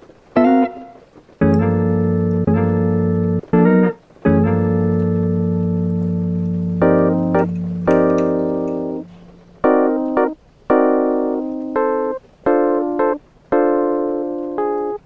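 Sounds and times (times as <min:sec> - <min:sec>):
hip-hop keyboard chords: 0:00.4 - 0:15.0.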